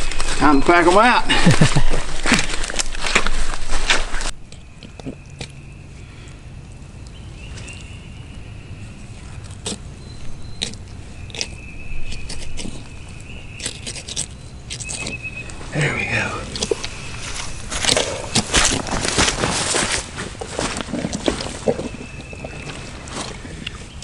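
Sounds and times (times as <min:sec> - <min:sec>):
leaves and brush crackling: 0:00.0 - 0:24.0.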